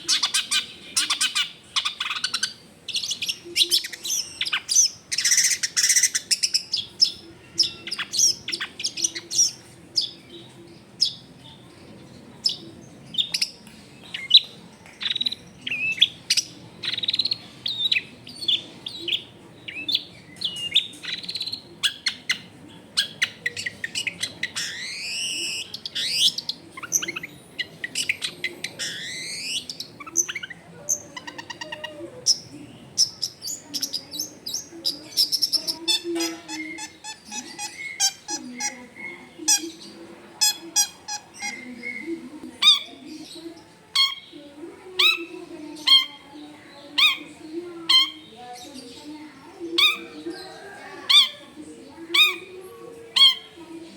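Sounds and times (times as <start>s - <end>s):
shrike singing: 0.0s - 53.6s.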